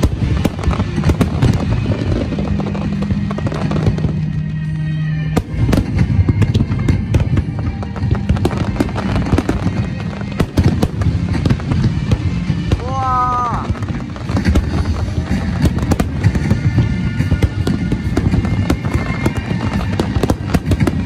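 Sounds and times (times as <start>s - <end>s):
fireworks bursting: 0.0s - 21.0s
music playing: 0.0s - 21.0s.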